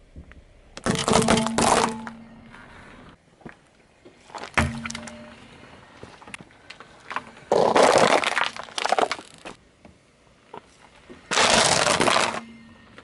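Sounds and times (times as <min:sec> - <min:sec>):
objects crunching under car tyre: 0:00.8 - 0:02.6, 0:03.4 - 0:09.6, 0:10.5 - 0:13.0.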